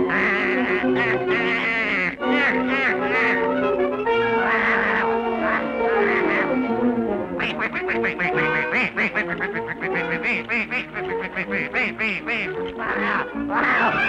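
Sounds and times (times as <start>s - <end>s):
cartoon orchestral music: 0.0s - 14.0s
cartoon duckling quacks: 0.1s - 3.5s, 4.4s - 6.6s, 7.4s - 14.0s.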